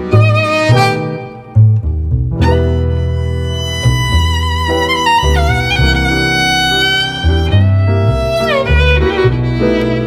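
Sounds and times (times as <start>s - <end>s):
plucked bass notes: 0.0s - 10.0s
string notes: 0.0s - 10.0s.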